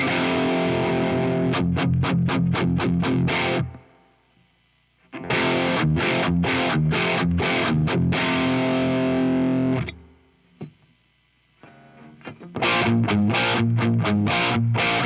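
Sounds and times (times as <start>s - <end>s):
distorted electric guitar riff: 0.0s - 4.0s, 5.0s - 10.8s, 11.6s - 15.0s.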